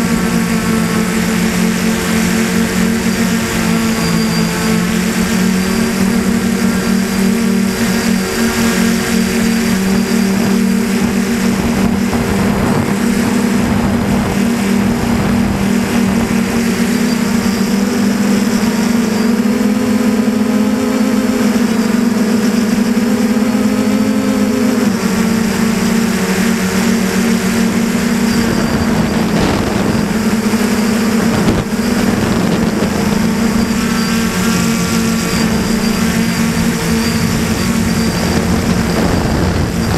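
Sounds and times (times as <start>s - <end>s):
constant rushing noise: 0.0s - 39.9s
drone motors humming: 0.0s - 39.9s.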